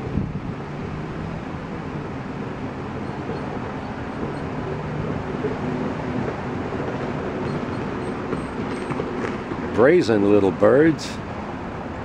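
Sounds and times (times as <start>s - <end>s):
vehicle engine droning: 0.0s - 11.1s.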